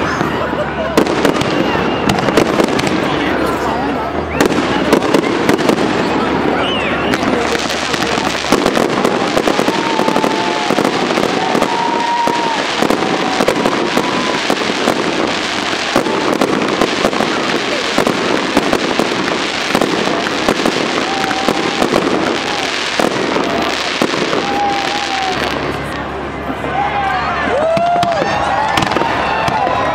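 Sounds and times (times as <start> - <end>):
fireworks crackling and popping: 0.0 - 26.8, 27.6 - 29.9.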